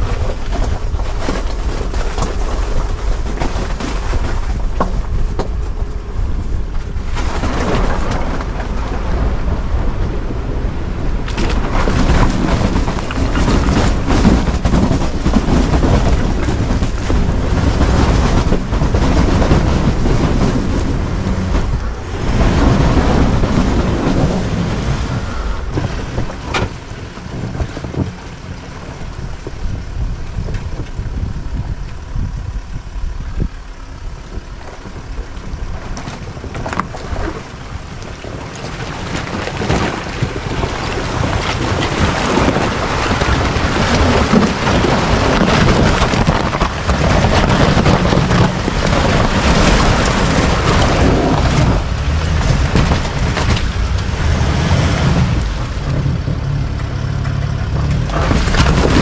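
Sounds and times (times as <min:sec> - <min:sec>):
vehicle low rumble: 0:00.0 - 0:59.0
wind buffeting microphone: 0:00.0 - 0:59.0.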